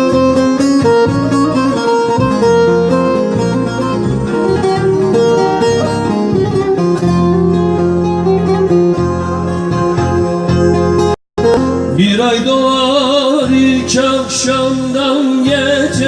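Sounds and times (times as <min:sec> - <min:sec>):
plucked string folk music: 0:00.0 - 0:16.0.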